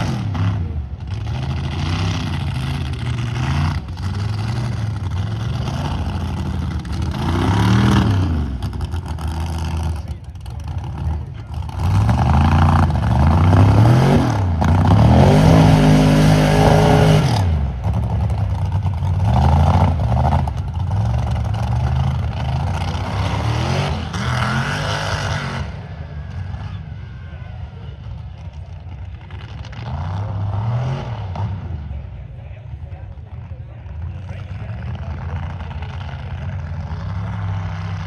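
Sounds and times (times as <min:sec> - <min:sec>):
truck engine revving hard: 0:00.0 - 0:27.3, 0:27.9 - 0:32.1, 0:34.2 - 0:38.0.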